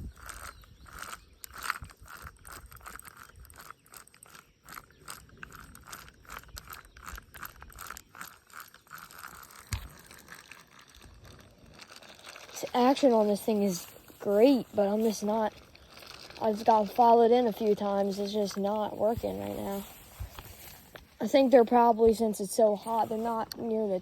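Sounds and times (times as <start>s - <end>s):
fishing reel clicking and whirring: 0.0s - 24.0s.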